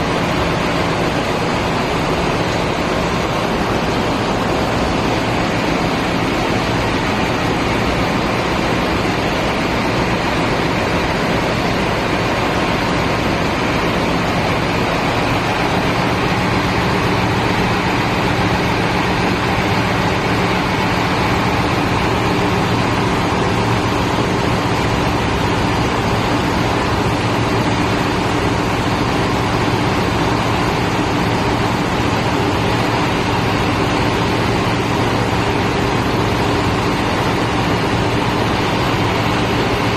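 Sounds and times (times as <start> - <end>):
boat engine drone: 0.0 - 39.9
thick rushing noise: 0.0 - 39.9.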